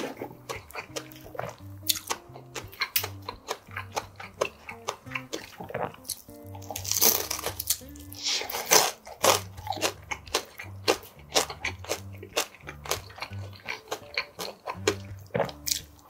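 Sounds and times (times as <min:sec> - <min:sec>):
chewing clicks: 0:00.0 - 0:16.0
crunchy bites into dumpling: 0:00.0 - 0:16.0.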